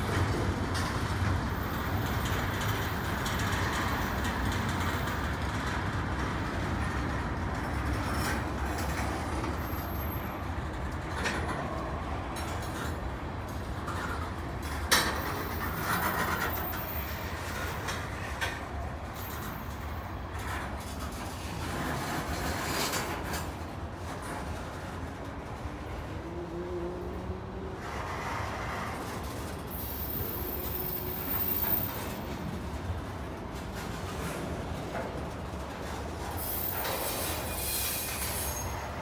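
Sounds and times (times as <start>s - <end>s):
sharp clacks of train wheels: 0.0s - 26.2s, 27.7s - 39.0s
freight train rolling past: 0.0s - 39.0s.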